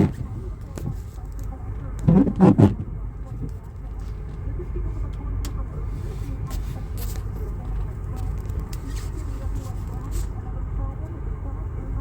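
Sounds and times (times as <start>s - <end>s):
car low rumble: 0.0s - 12.0s.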